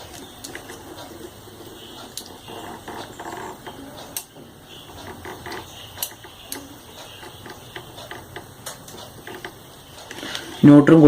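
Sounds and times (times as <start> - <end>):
wire handling noises: 0.0 - 10.6.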